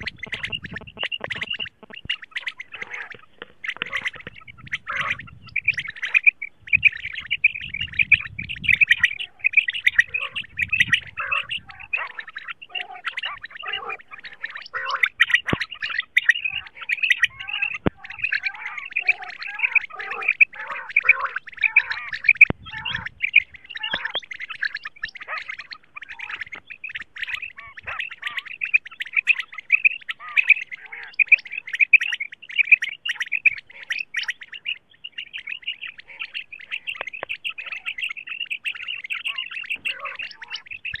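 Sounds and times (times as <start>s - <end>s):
quail chirping calls: 0.0s - 41.0s.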